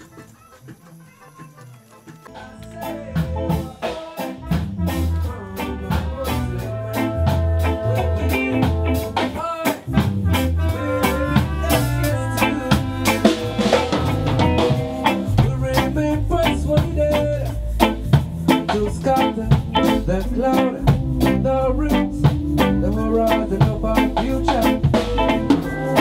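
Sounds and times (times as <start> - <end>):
drum kit beat: 0.0 - 26.0
reggae band playing: 0.0 - 26.0
deep bass line: 4.4 - 26.0.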